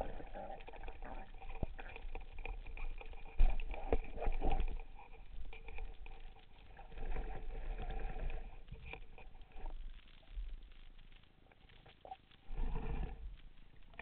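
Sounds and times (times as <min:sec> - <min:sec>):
gear rustling underwater: 0:00.0 - 0:14.0
low underwater rumble: 0:00.0 - 0:14.0.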